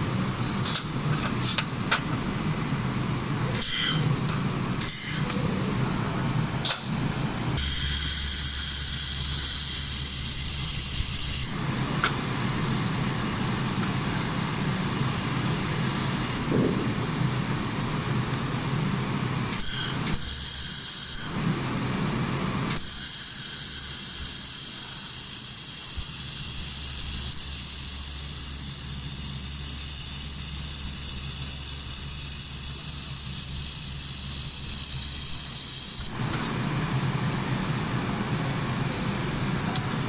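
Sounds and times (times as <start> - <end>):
welding machine hum: 0.2 - 40.0
laser welder gas hiss: 7.6 - 40.0.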